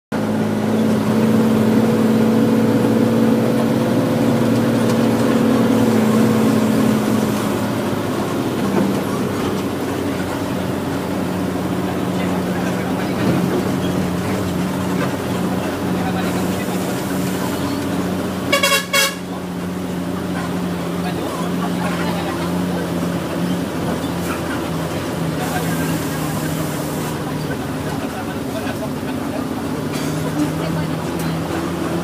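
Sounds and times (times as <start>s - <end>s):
vehicle engine droning: 0.1s - 32.0s.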